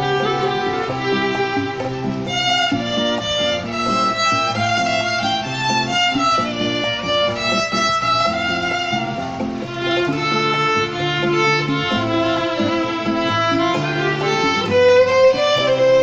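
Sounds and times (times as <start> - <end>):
violin melody: 0.0 - 16.0.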